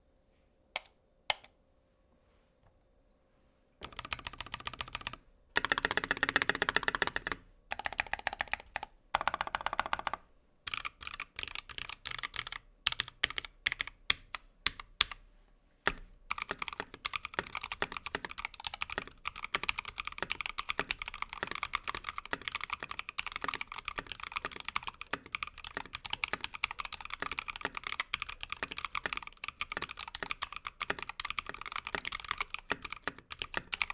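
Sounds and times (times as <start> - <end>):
mechanical keyboard typing: 3.8 - 15.2, 15.9 - 33.9.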